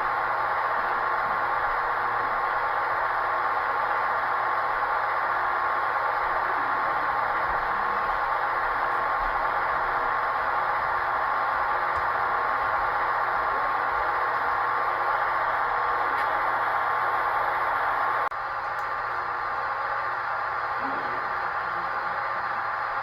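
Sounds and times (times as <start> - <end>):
diesel locomotive engine sound: 0.0 - 23.0.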